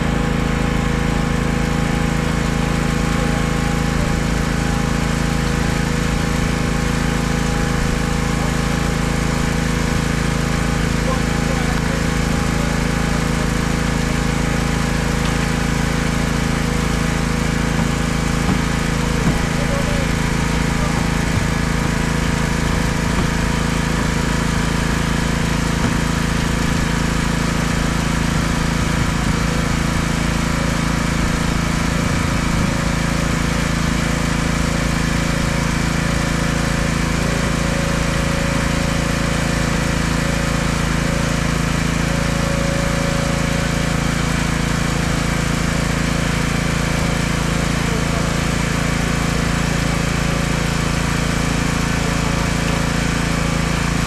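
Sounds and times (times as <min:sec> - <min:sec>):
pressure washer engine running: 0:00.0 - 0:54.0.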